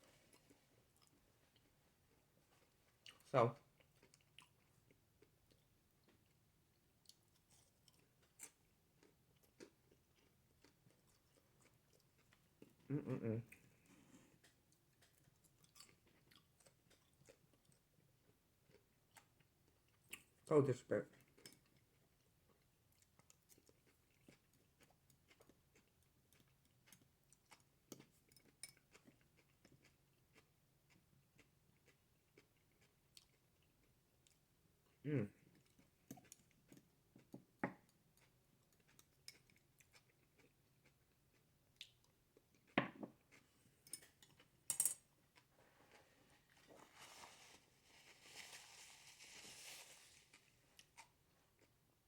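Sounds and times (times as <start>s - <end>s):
faint chewing of food: 0.0s - 52.0s.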